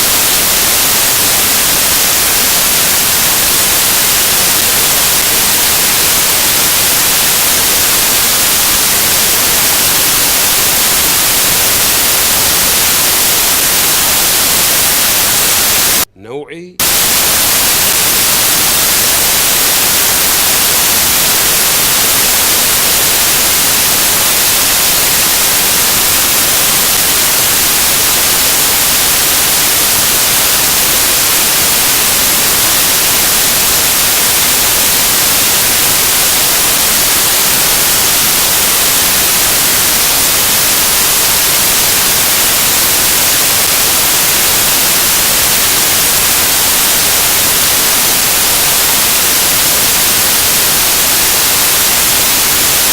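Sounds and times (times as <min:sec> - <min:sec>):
static hiss: 0:00.0 - 0:52.9.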